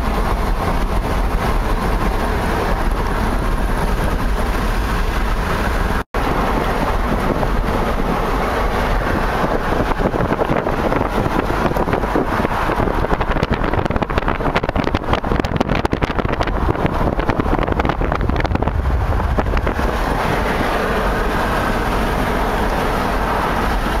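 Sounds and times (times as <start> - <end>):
car road noise from inside: 0.0 - 24.0.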